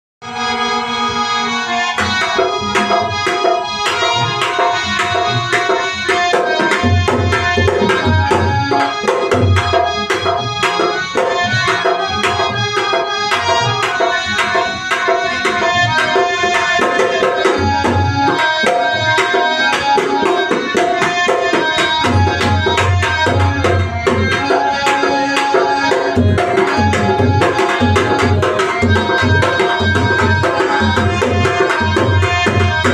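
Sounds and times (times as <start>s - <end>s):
dholak drumming: 0.2s - 32.9s
sustained melody line: 0.2s - 32.9s.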